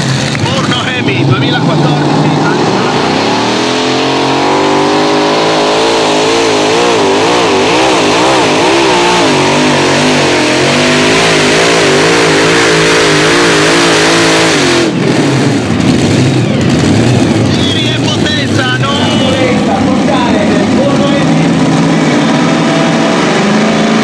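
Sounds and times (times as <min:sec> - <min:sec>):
pulling tractor engines at full power: 0:00.0 - 0:24.0.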